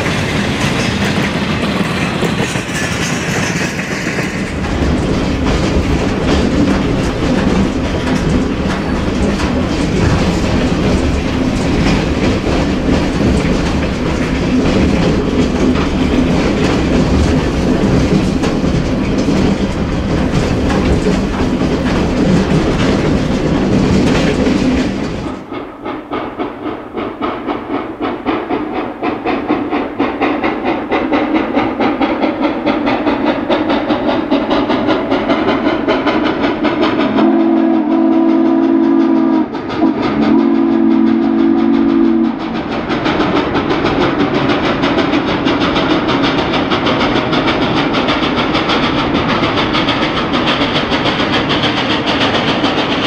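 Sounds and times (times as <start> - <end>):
rail clatter: 0.0 - 53.0
steam locomotive exhaust beat: 0.0 - 53.0.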